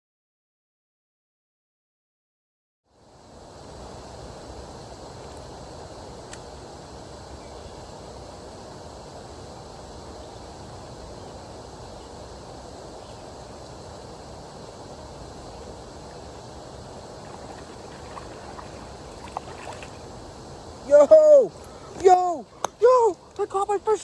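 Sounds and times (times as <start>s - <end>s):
low rushing outdoor noise: 2.9s - 24.0s.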